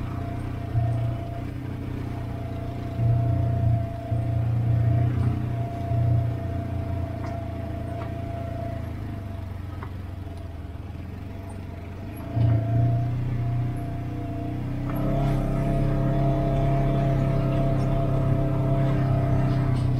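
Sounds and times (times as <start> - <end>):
off-road vehicle engine running: 0.0 - 19.9
steady whine: 0.0 - 19.9.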